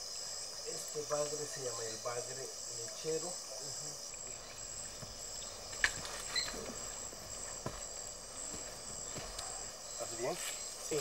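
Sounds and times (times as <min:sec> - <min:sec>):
chorus of rainforest insects: 0:00.0 - 0:11.0.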